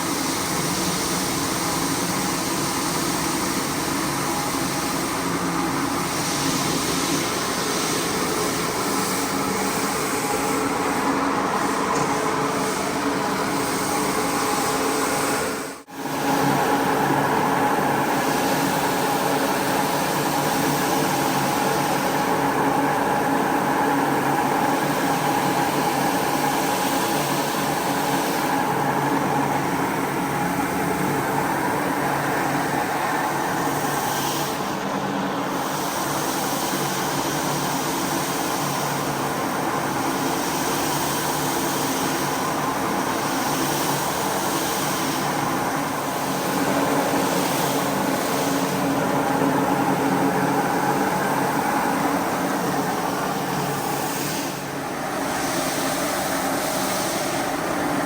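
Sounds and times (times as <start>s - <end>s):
carpet cleaner motor humming: 0.0s - 36.2s, 38.6s - 58.0s.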